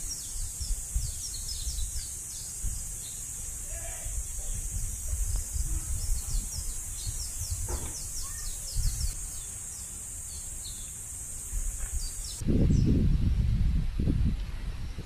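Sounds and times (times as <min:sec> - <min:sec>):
wind rumble on microphone: 0:00.0 - 0:09.2, 0:11.4 - 0:15.0
steady high hiss: 0:00.0 - 0:12.8
bird chirping: 0:00.0 - 0:13.0.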